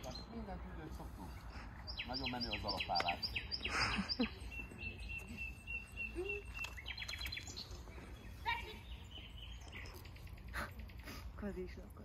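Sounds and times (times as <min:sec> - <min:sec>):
low outdoor background noise: 0:00.0 - 0:12.0
small birds chirping and trilling: 0:00.0 - 0:12.0.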